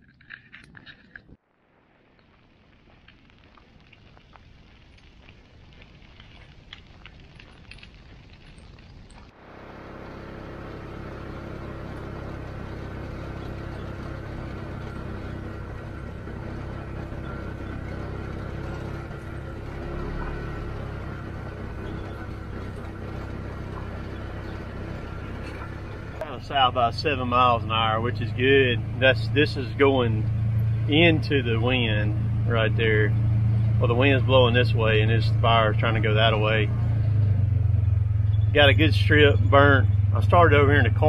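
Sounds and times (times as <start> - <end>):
fire crackling in brush: 0.7 - 37.2
vehicle engine running: 4.1 - 41.0.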